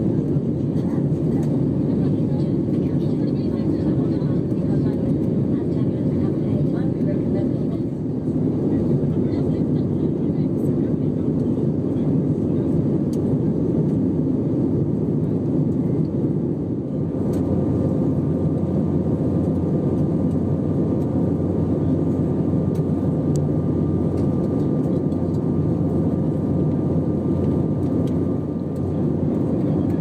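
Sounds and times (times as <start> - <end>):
airplane cabin drone: 0.0 - 30.0.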